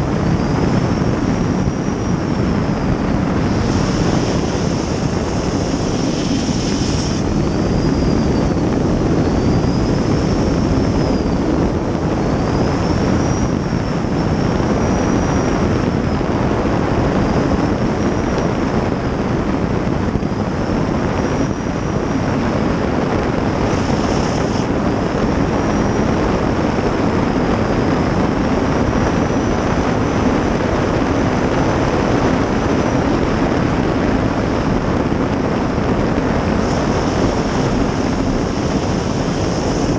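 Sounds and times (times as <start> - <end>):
boat turbine and water rush: 0.0 - 39.9
faint high whine: 0.0 - 39.9.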